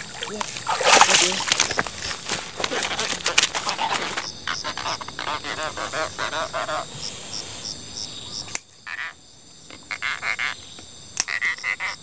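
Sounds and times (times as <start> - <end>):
croaking calls: 0.0 - 12.0
insects chirping: 0.0 - 12.0.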